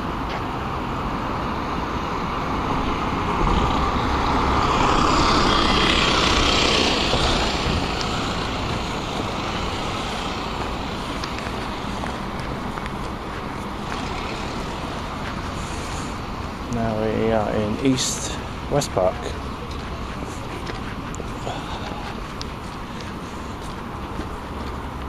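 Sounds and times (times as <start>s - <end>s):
bus passing close by: 0.0s - 25.0s
road traffic: 0.0s - 25.0s.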